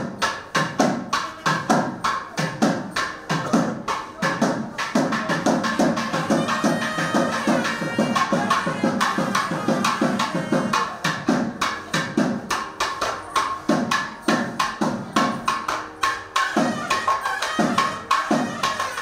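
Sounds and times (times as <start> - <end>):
fast hand drumming: 0.0 - 19.0.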